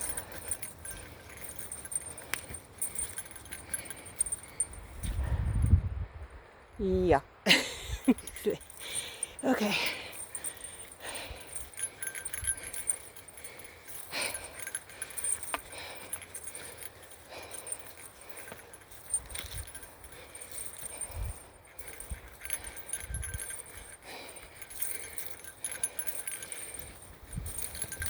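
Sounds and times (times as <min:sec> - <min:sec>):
small bell jingling: 0:00.0 - 0:05.9, 0:06.8 - 0:28.0.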